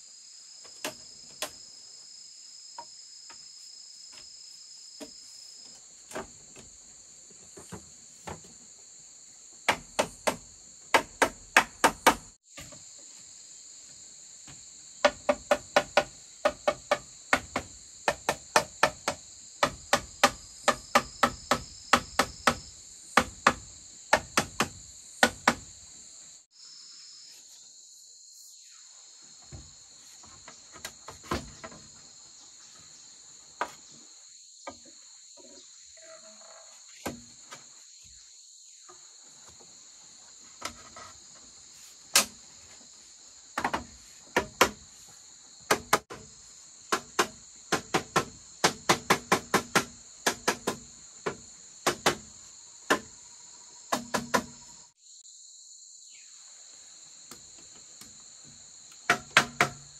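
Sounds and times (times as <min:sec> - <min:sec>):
crickets droning: 0:00.0 - 0:59.9.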